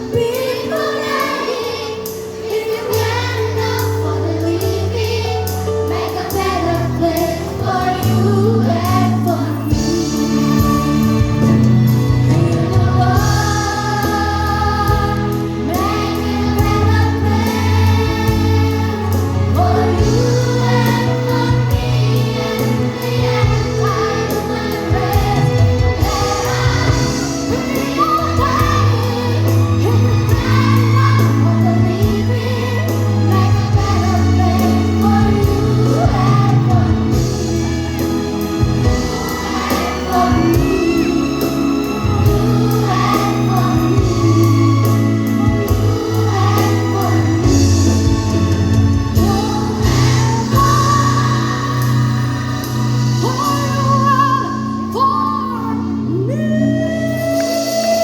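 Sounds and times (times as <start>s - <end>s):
instrumental accompaniment: 0.0s - 55.0s
children's choir singing: 0.0s - 55.8s.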